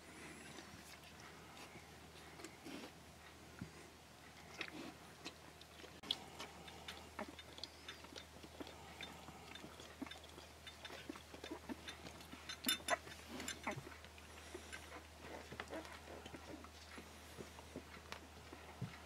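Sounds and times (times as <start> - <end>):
puppies sucking smacks: 0.0 - 19.0.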